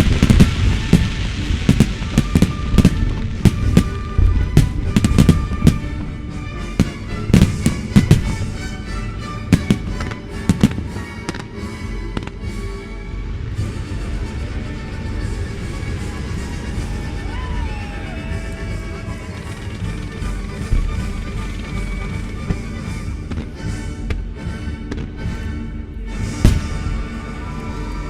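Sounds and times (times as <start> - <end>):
fireworks bangs: 0.0 - 12.6, 13.4 - 24.2, 26.4 - 27.2
music: 0.0 - 28.0.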